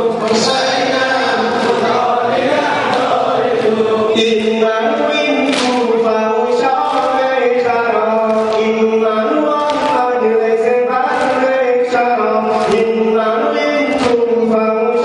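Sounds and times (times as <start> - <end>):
crowd chanting a lament: 0.0 - 15.0.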